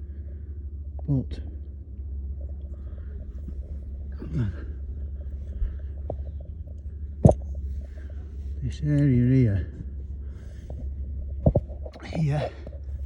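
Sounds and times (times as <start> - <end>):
falling hum: 0.0 - 13.0
low rumble: 0.0 - 13.0.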